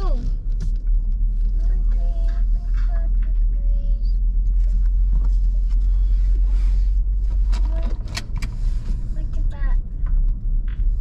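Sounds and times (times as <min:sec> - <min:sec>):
car driving low rumble: 0:00.0 - 0:11.0.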